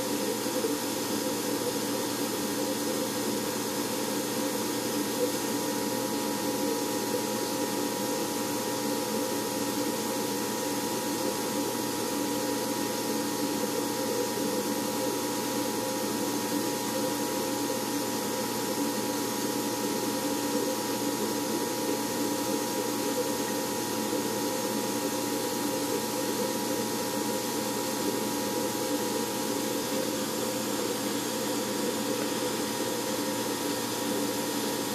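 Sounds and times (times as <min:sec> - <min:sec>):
machine hum and hiss: 0:00.0 - 0:34.9.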